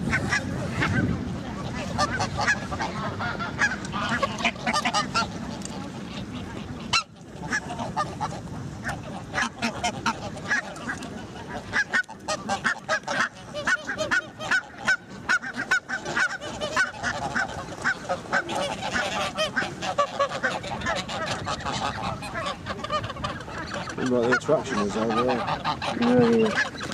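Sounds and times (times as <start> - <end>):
geese honking: 0.0 - 26.9.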